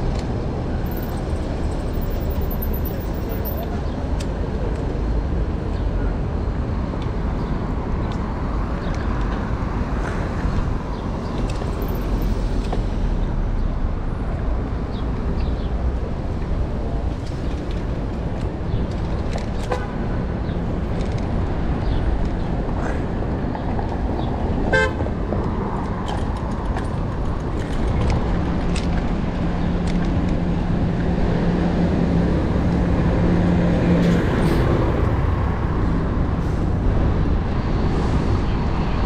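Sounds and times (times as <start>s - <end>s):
city traffic with cars passing: 0.0s - 39.0s
wind rumble on microphone: 4.0s - 39.0s.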